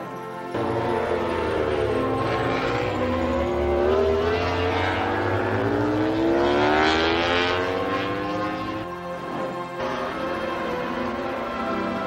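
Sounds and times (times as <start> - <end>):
motorcycle engine revving: 0.6 - 12.0.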